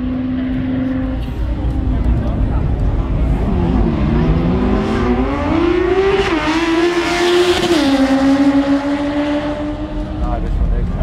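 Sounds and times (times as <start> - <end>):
motorcycles accelerating hard: 0.0 - 11.0.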